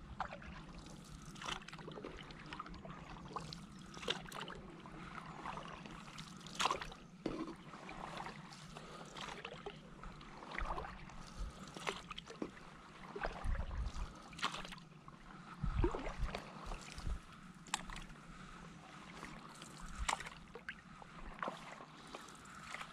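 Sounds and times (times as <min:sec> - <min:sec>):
paddle pulling through water: 0:00.0 - 0:22.9
small splashes and drips: 0:00.2 - 0:14.9, 0:15.7 - 0:18.2, 0:19.1 - 0:22.9.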